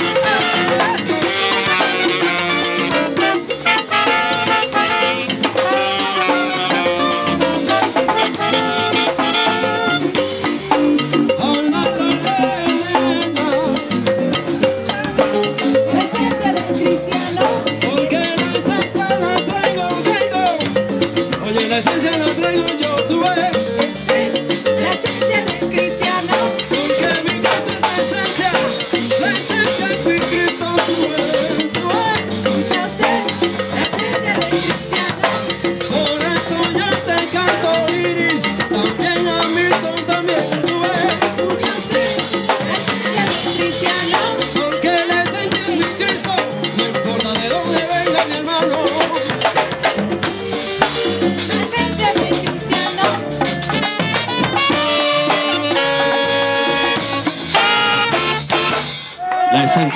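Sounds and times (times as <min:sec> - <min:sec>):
salsa band playing: 0:00.0 - 0:59.9.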